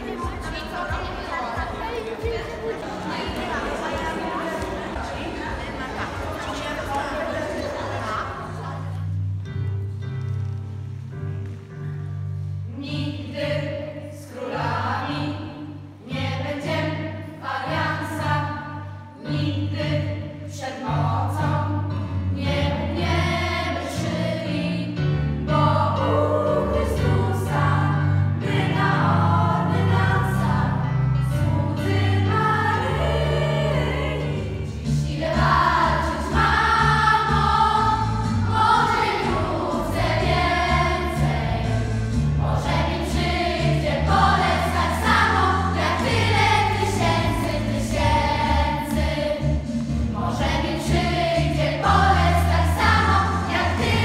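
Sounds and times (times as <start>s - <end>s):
children's choir singing a carol: 0.0s - 9.2s, 12.7s - 54.0s.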